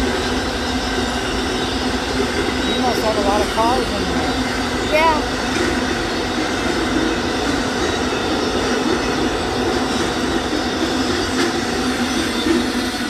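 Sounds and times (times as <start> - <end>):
train wheels rolling on track: 0.0 - 13.0.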